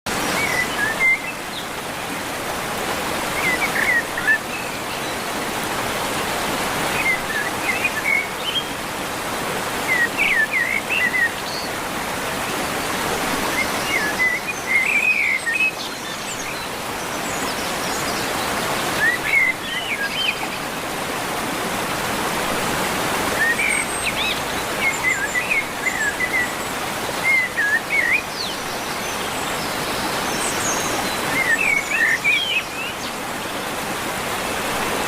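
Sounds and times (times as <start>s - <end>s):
running water rushing: 0.1s - 35.0s.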